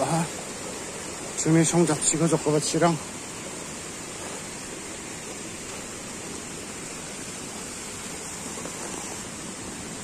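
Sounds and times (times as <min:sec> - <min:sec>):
stream water rushing over rocks: 0:00.0 - 0:10.0.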